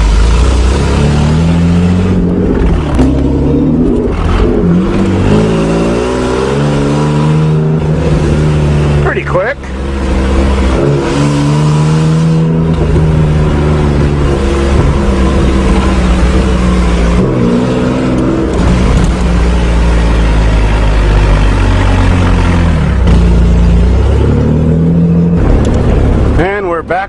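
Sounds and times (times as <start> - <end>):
pickup engine under load: 0.0 - 27.0.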